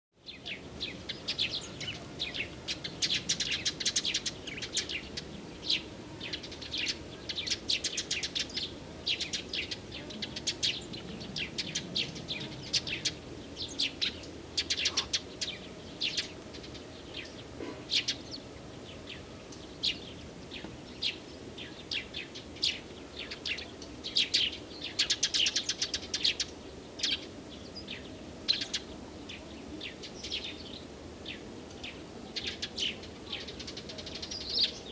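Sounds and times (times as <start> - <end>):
faint background hiss: 0.2 - 34.9
songbirds chirping and singing: 0.2 - 34.9.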